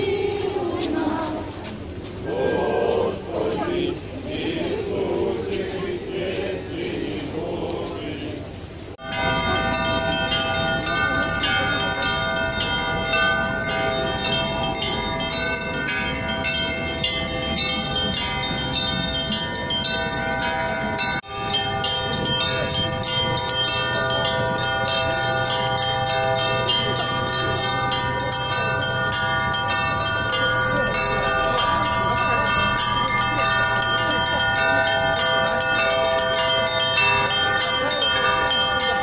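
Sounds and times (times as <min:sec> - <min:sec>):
church bells pealing: 0:00.0 - 0:39.0.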